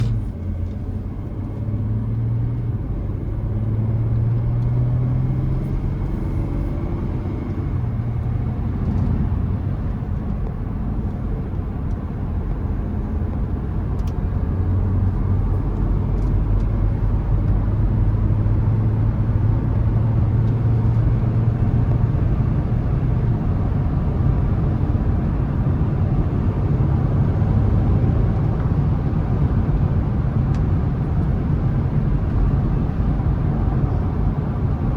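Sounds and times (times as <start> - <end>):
diesel engine running: 0.0 - 34.9
tyre and road noise: 0.0 - 34.9.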